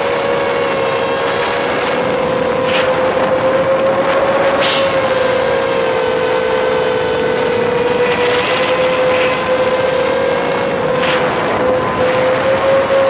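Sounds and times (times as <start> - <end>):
drone propellers whining: 0.0 - 13.0
rushes of noise: 0.0 - 13.0.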